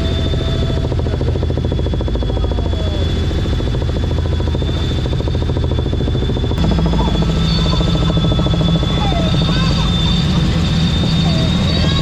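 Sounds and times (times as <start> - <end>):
helicopter rotor beat: 0.0 - 12.0.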